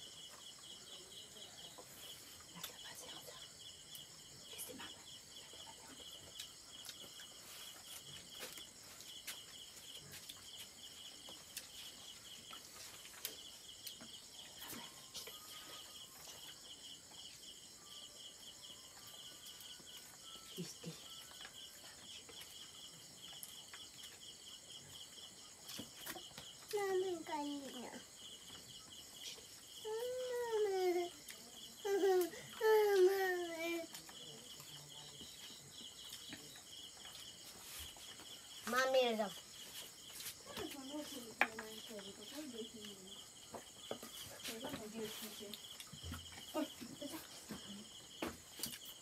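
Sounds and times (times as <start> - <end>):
insect chirping: 0.0 - 49.0.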